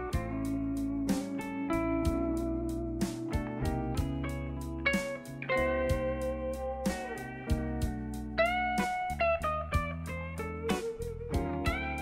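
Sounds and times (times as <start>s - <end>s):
plucked and strummed guitar music: 0.0s - 12.0s.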